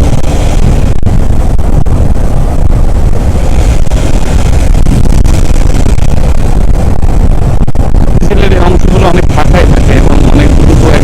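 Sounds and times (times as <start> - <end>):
motorcycle road noise: 0.0 - 11.0
wind rushing on microphone: 0.0 - 11.0.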